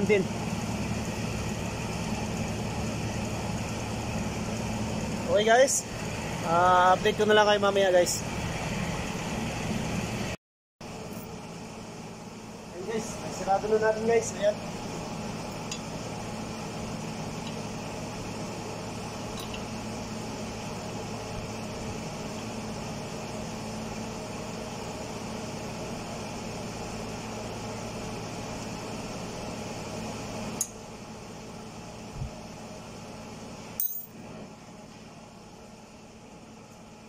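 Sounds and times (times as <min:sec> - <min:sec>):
electric fan humming: 0:00.0 - 0:37.0.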